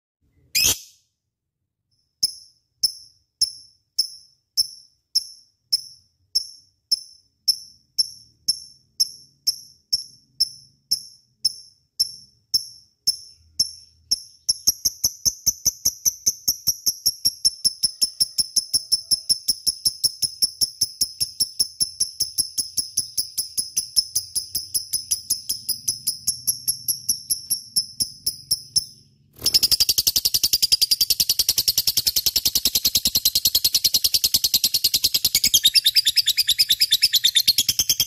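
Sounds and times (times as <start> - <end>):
lovebird high-pitched chirps: 0.3 - 1.1, 2.2 - 38.0.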